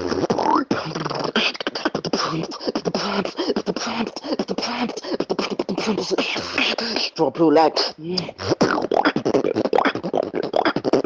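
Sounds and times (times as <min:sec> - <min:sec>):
beatboxing: 0:00.0 - 0:11.0.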